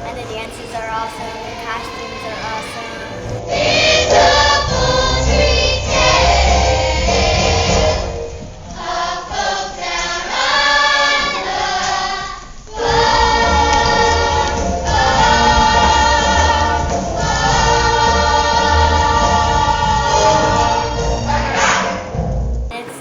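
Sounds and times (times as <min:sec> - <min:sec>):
choir singing: 0:00.0 - 0:08.2, 0:08.8 - 0:22.0, 0:22.7 - 0:23.0.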